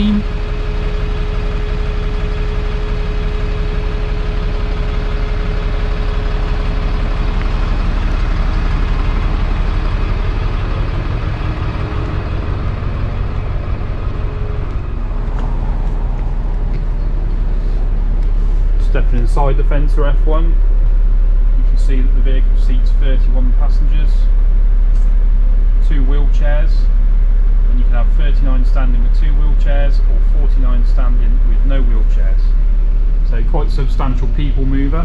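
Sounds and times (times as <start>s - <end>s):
bus engine idling: 0.0s - 35.0s.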